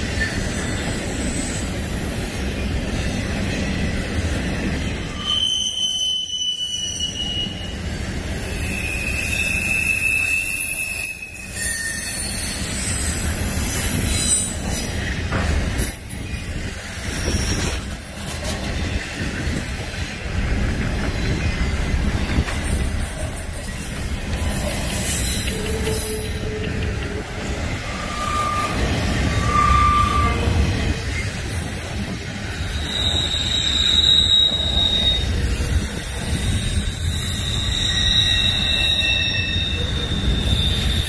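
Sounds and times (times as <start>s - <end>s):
shrill wheel squeals: 0.0s - 20.1s, 21.1s - 41.0s
train wheels rumbling on rail: 0.0s - 41.0s.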